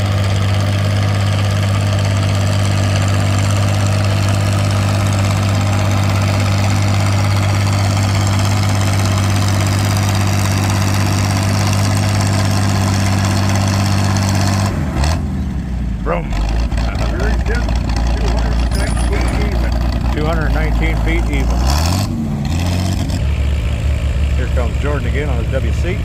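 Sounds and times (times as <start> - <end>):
tractor engine running hard: 0.0 - 26.0.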